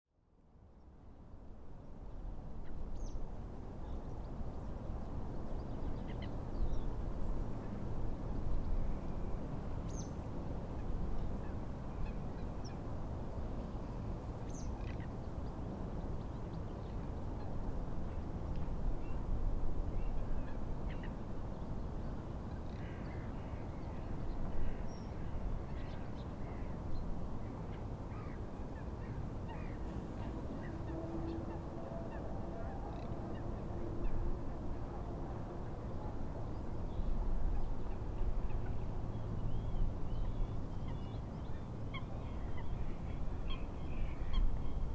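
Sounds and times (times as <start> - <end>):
wind: 0.0 - 44.9.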